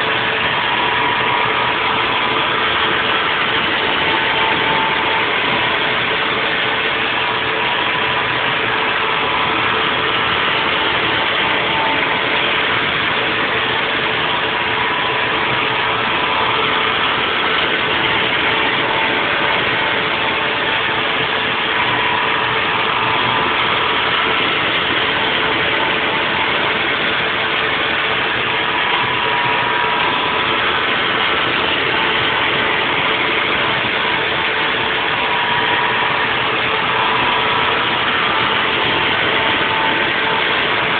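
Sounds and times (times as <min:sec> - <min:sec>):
high tool whine: 0:00.0 - 0:40.9
milling machine cutting noise: 0:00.0 - 0:40.9.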